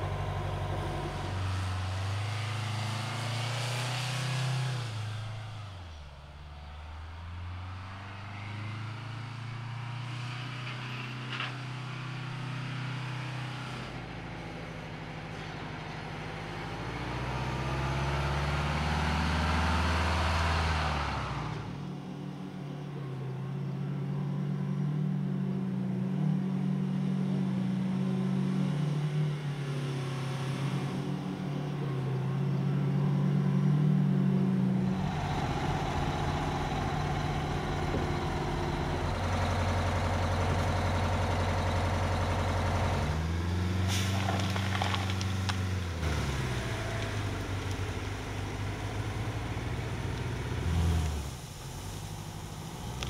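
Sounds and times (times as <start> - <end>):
diesel truck engine revving: 0.0 - 53.0.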